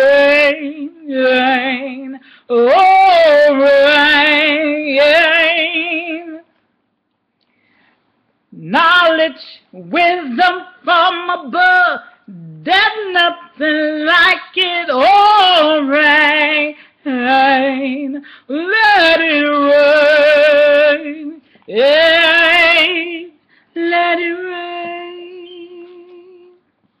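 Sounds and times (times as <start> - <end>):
woman singing with vibrato: 0.0 - 6.6, 8.5 - 26.7.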